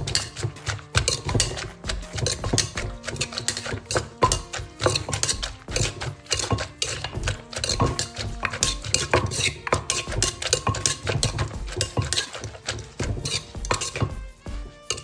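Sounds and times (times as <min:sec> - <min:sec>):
metal spoon scraping: 0:00.0 - 0:15.0
wooden pestle pounding in mortar: 0:00.0 - 0:15.0.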